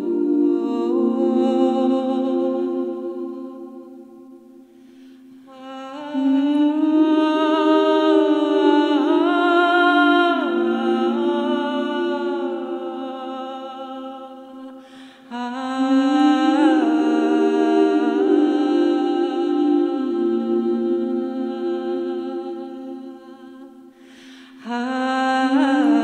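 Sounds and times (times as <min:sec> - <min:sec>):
woman singing chant-like notes: 0:00.0 - 0:26.0.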